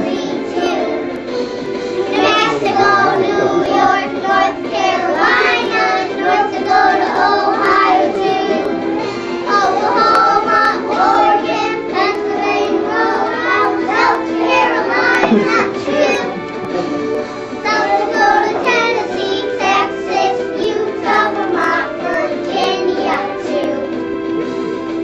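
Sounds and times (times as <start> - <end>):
children singing together: 0.0 - 24.4.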